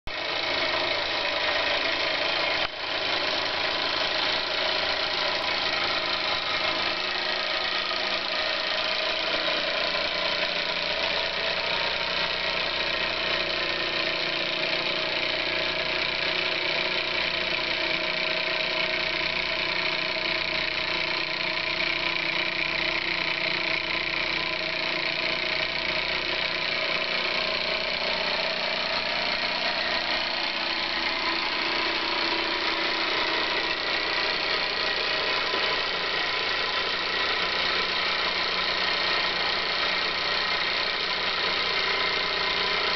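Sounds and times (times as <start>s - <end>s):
toy steam engine running: 0.1s - 42.9s.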